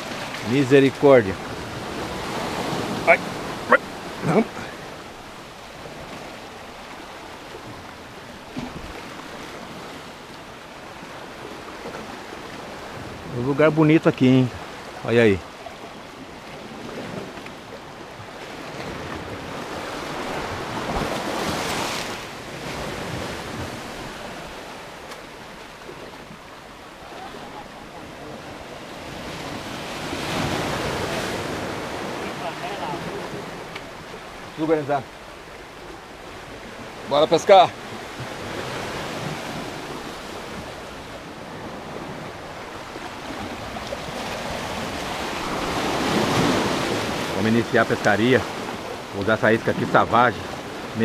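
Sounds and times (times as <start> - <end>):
surf washing over rocks: 0.0 - 51.0.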